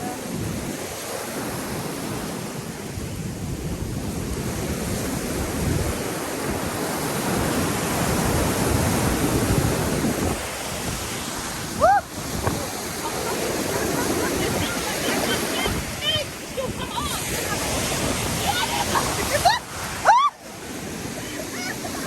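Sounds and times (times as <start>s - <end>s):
wind buffeting microphone: 0.0s - 20.0s
sea waves washing in: 0.0s - 22.0s.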